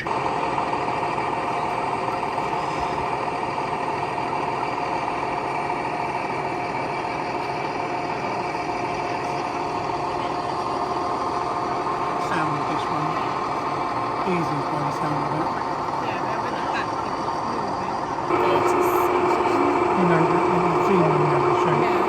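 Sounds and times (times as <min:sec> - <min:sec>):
recorded locomotive engine idling: 0:00.0 - 0:22.0.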